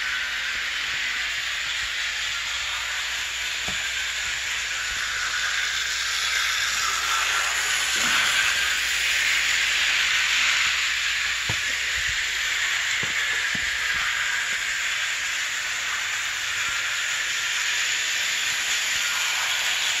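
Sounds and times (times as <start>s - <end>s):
toy train running on metal track: 0.0s - 20.0s.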